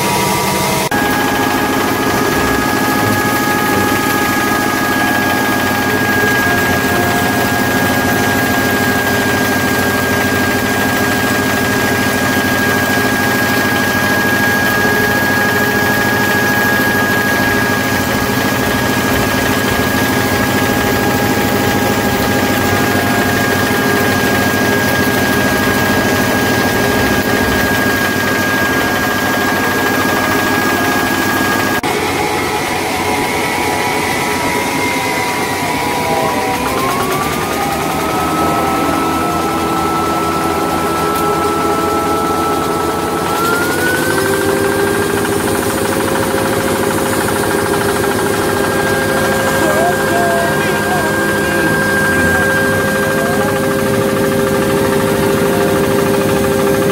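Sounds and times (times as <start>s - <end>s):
grinding mill droning: 0.0s - 56.9s
high whine: 0.0s - 56.9s.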